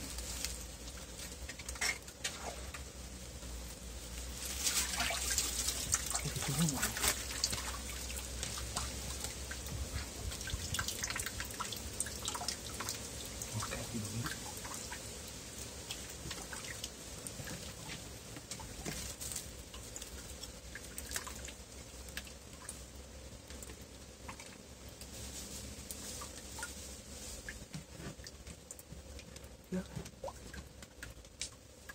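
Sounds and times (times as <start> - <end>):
water dripping and trickling: 4.2 - 25.1, 25.8 - 31.9.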